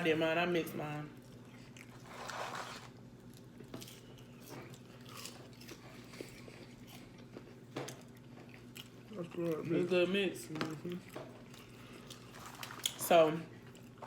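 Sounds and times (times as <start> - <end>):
people chewing food: 1.2 - 14.0.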